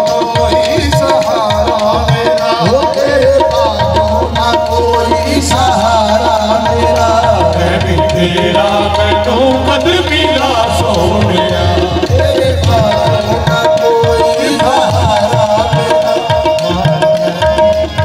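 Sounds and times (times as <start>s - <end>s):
harmonium melody: 0.0s - 18.0s
tabla drumming: 0.0s - 18.0s.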